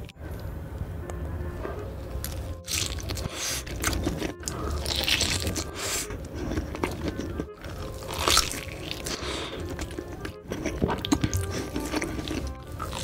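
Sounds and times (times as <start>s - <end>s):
chewing and biting food: 1.6s - 13.0s.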